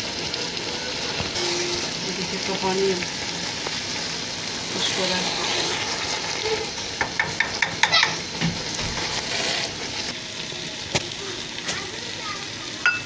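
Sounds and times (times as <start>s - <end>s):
rice bubbling and sizzling: 0.0s - 13.0s.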